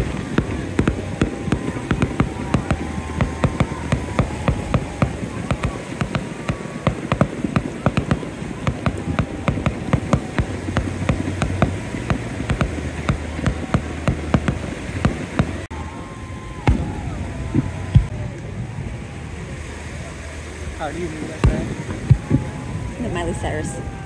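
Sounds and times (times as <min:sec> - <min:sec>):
fireworks popping and crackling: 0:00.0 - 0:18.6, 0:20.9 - 0:24.0
low steady hum: 0:00.0 - 0:24.0.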